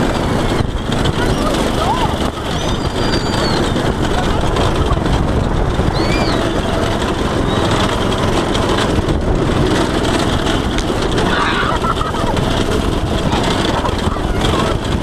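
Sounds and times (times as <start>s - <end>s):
go-kart engine running: 0.0s - 15.0s
kart rattling: 0.0s - 15.0s
wind rush: 0.0s - 15.0s.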